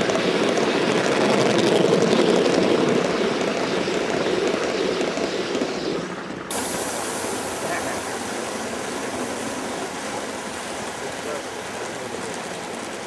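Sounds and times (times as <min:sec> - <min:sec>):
model train wheels on rail: 0:00.0 - 0:13.0.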